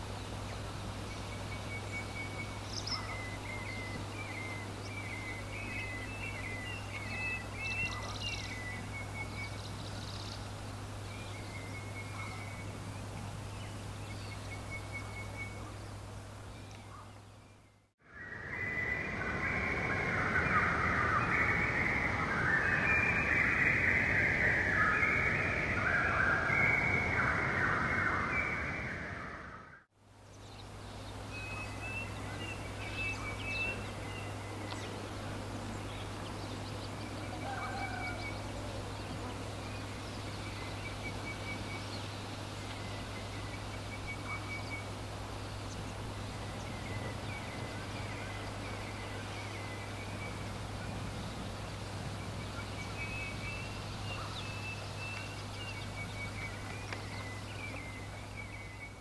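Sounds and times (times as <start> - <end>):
steady hiss: 0.0 - 29.2, 29.9 - 59.0
low steady hum: 0.0 - 29.4, 30.0 - 59.0
birds chirping and trilling: 0.0 - 59.0.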